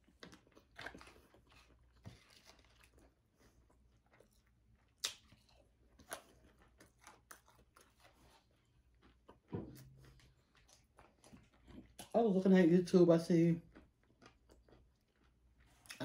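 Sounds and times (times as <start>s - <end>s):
person chewing food: 0.0s - 12.3s, 13.6s - 16.0s.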